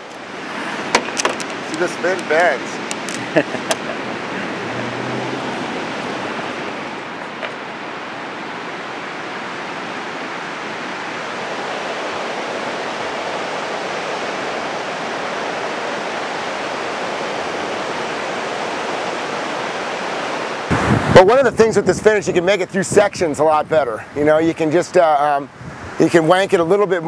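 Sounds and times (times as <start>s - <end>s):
ocean surf breaking on beach: 0.0s - 27.0s.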